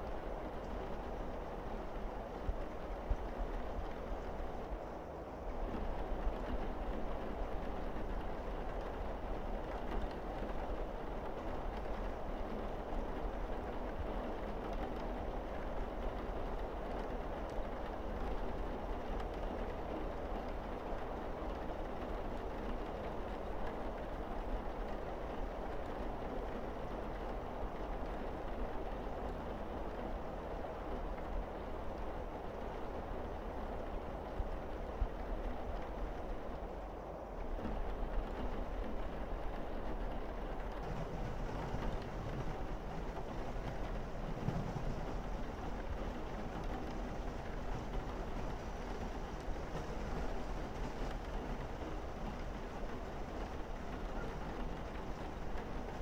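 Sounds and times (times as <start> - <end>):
rain pouring on a roof: 0.0 - 56.0.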